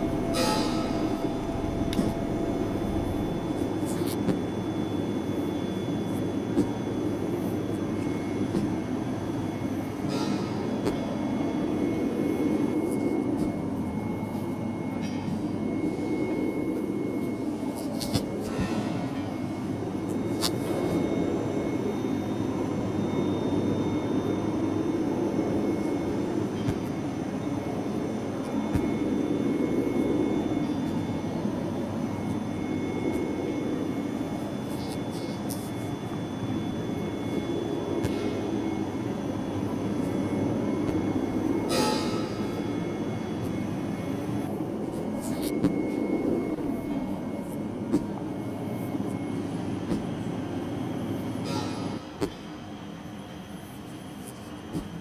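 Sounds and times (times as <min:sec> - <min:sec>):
low mechanical rumble: 0:00.0 - 0:55.0.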